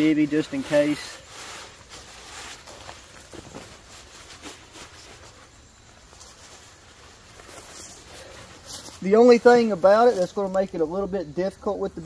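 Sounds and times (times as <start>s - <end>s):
sleeping bag rustling: 0.0s - 10.7s.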